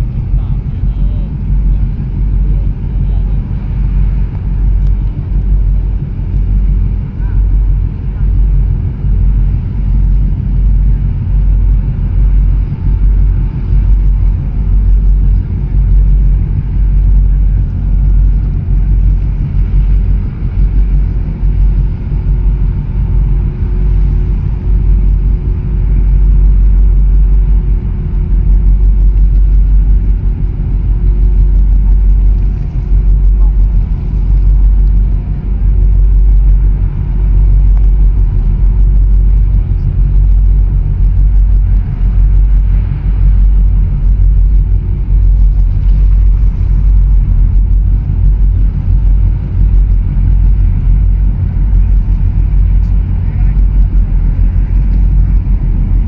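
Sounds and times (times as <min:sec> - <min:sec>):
faint steady hum: 0:00.0 - 0:56.0
wind buffeting microphone: 0:00.0 - 0:56.0.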